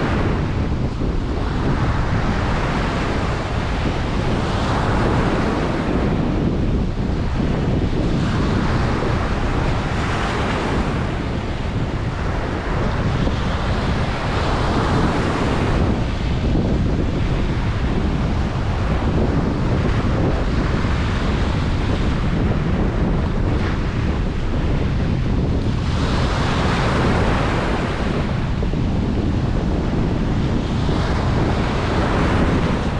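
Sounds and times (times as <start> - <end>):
ocean surf washing onto beach: 0.0 - 32.9
wind rumble on microphone: 0.0 - 32.9.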